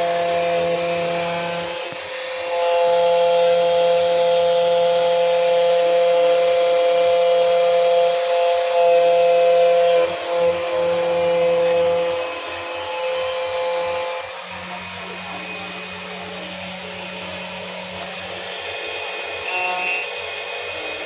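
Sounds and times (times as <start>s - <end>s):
key cutting machine grinding: 0.0s - 21.0s.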